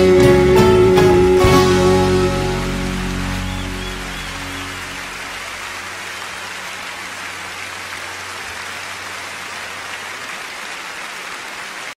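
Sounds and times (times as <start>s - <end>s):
audience applauding: 1.7s - 12.0s.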